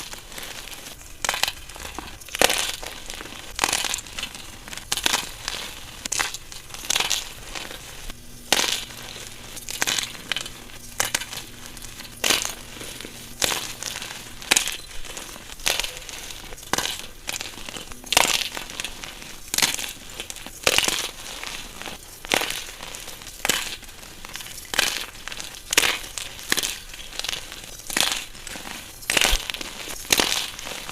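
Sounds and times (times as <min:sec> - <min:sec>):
chalk being crushed: 0:00.0 - 0:30.9.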